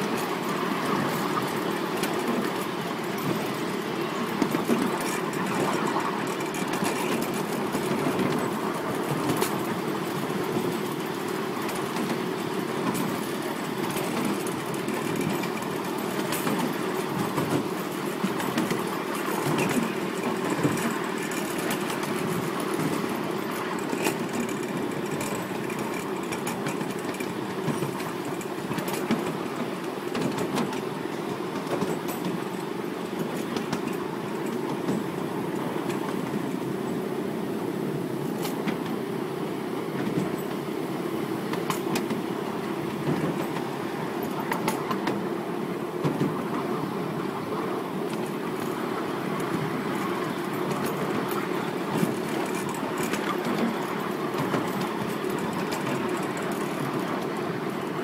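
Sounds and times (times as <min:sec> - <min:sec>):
wheels clicking over rail joints: 0:00.0 - 0:58.0
wheels rumbling on rail: 0:00.0 - 0:58.0.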